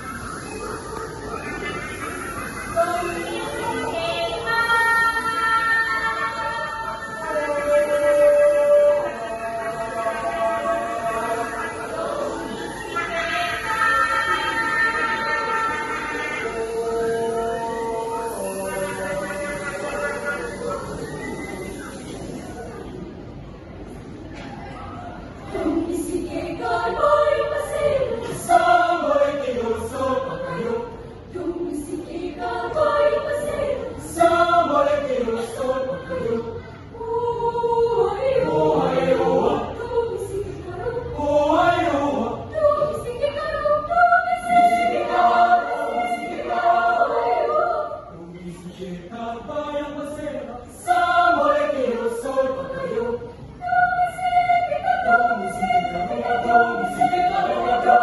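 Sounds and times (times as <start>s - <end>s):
choir singing unaccompanied: 0.0s - 22.7s, 25.4s - 58.0s.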